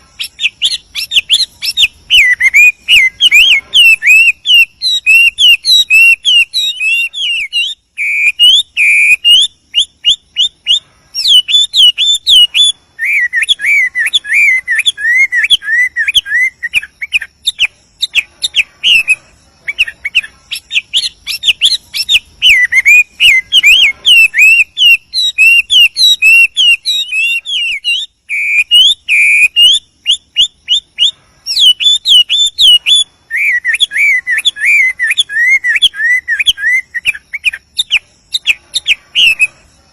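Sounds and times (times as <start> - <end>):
bird whistled song: 0.0 - 39.9.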